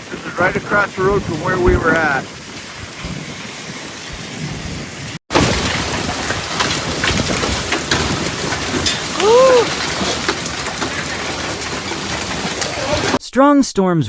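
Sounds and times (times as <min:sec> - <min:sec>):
heavy rain on hard surface: 0:00.0 - 0:13.2.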